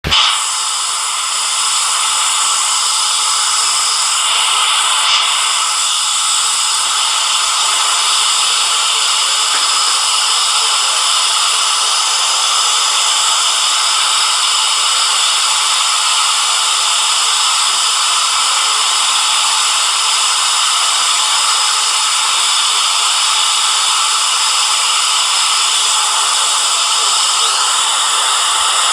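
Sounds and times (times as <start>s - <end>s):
loud static hiss: 0.0s - 28.9s.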